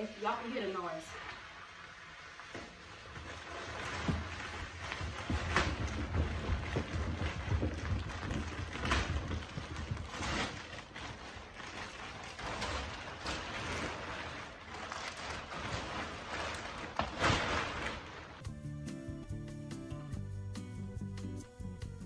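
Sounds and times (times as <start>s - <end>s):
plastic wrapping crinkling: 0.0s - 18.4s.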